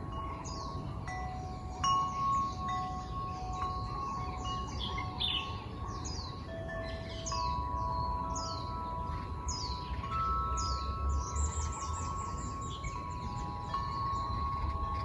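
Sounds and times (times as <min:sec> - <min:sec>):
birds chirping: 0:00.0 - 0:15.0
wind chimes ringing: 0:00.0 - 0:15.0.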